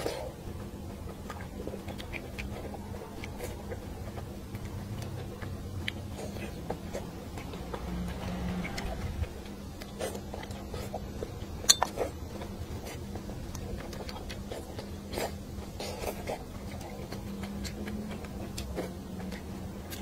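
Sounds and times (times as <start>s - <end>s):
chewing mouth sounds: 0.0s - 20.0s
steady low hum: 0.0s - 20.0s.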